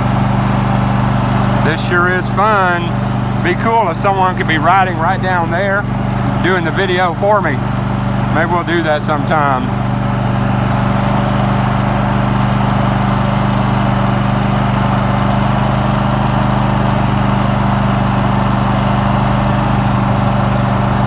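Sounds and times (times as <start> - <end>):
riding lawn mower engine: 0.0 - 21.0.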